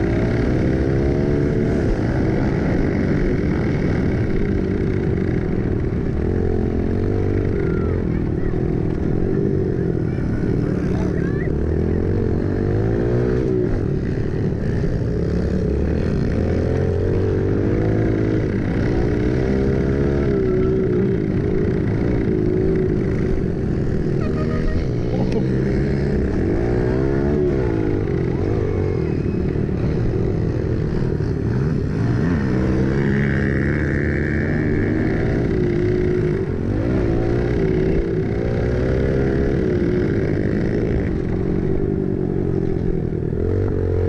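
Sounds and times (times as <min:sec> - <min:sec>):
pit bike engine revving: 0:00.0 - 0:44.0.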